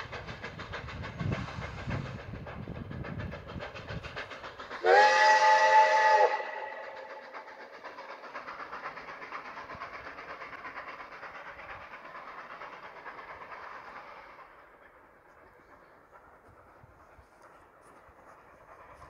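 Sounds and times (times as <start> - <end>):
train running on track: 0.0 - 19.0.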